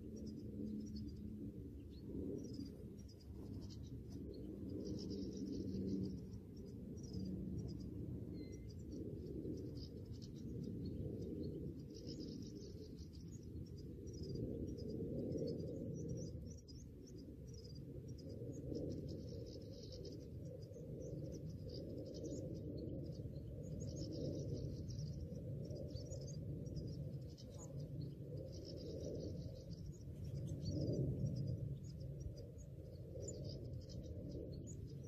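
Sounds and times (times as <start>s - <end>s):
small birds twittering: 0.0s - 35.0s
wind noise on microphone: 0.0s - 35.0s.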